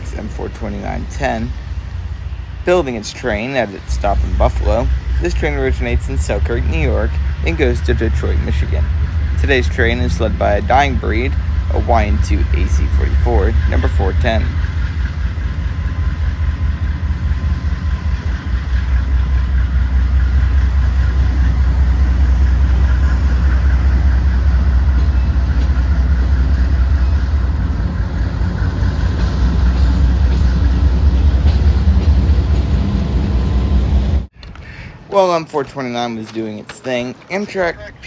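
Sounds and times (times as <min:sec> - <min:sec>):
locomotive engine rumbling: 0:00.0 - 0:38.0.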